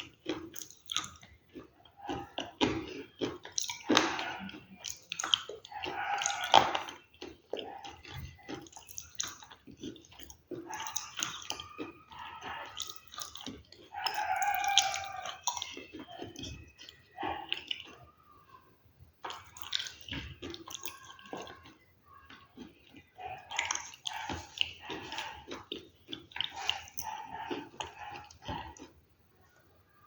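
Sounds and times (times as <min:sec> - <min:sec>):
chewing crunchy food: 0:00.0 - 0:29.4.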